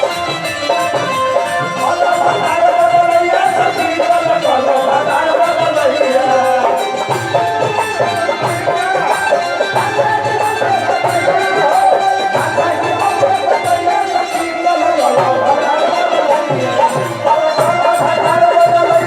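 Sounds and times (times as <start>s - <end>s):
percussion steady beat: 0.0s - 19.0s.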